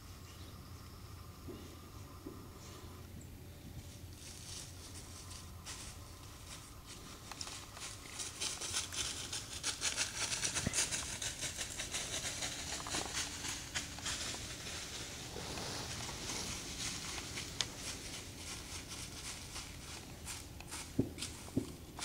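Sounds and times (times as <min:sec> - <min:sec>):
deer walking through dry leaves: 0:03.8 - 0:22.0.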